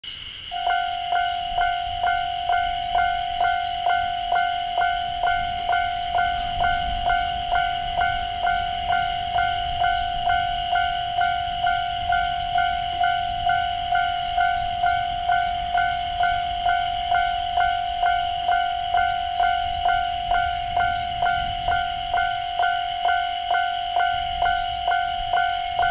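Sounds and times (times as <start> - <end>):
level crossing warning bell: 0.5 - 25.9.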